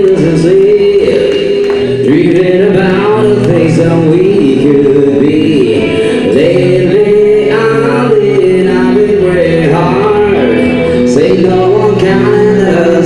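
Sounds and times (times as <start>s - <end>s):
lead singer singing: 0.0s - 13.0s
live band playing: 0.0s - 13.0s.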